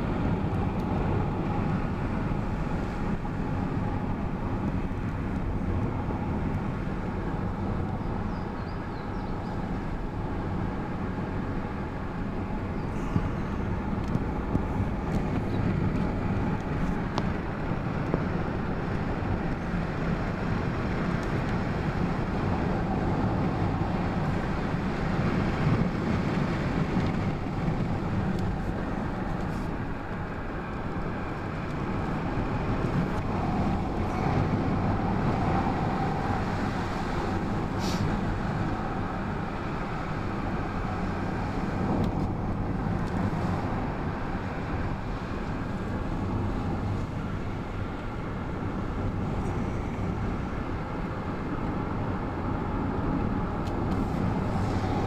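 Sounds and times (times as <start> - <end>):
car tyre and engine noise: 0.0 - 55.0.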